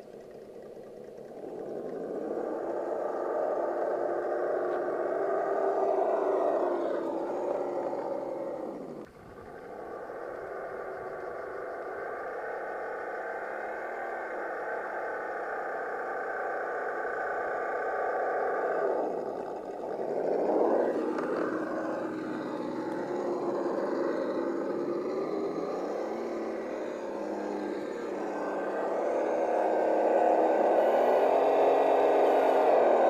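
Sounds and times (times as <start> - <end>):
electric motor and gearbox whine: 0.0 - 33.0.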